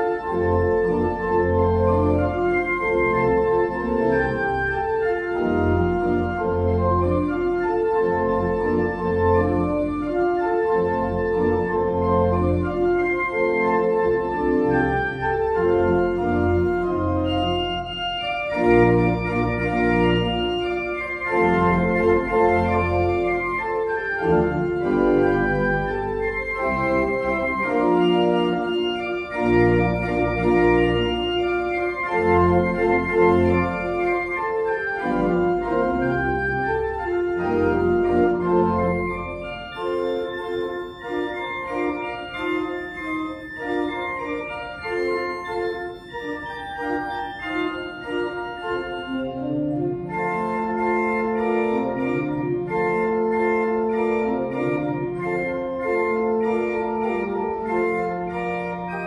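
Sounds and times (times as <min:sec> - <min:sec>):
organ playing chords: 0:00.0 - 0:59.0.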